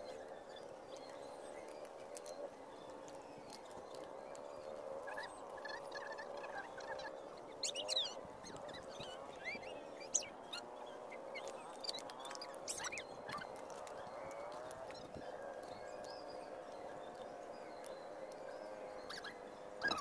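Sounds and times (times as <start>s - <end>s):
birds chorus: 0.0s - 20.0s.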